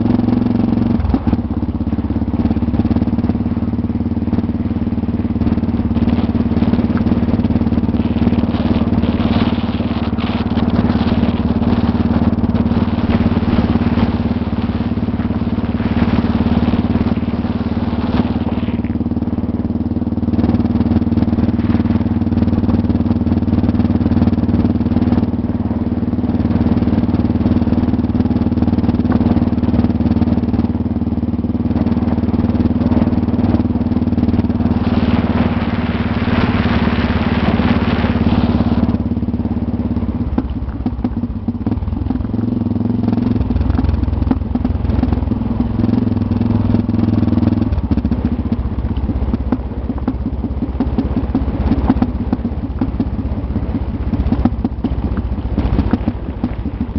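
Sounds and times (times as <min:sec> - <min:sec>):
motorcycle engine running: 0:00.0 - 0:56.9
road noise: 0:00.0 - 0:56.9
wind noise: 0:00.0 - 0:56.9.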